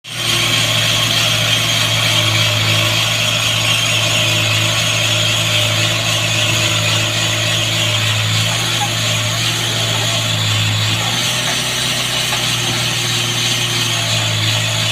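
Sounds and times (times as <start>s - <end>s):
heavy machinery engine humming: 0.1s - 14.9s.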